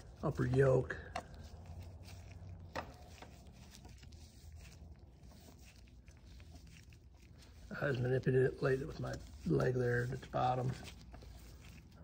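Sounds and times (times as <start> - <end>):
light clicks and scrapes: 0.0 - 12.0
low steady hum: 0.0 - 12.0.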